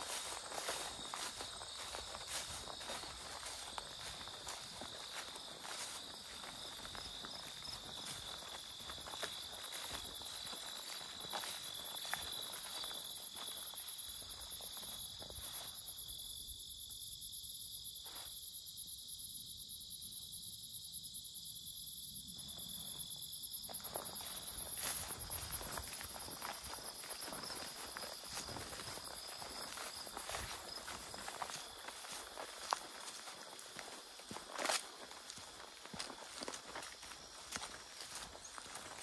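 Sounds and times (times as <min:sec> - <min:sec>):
footsteps on grass: 0:00.0 - 0:16.3, 0:22.6 - 0:39.0
crickets trilling: 0:00.0 - 0:39.0.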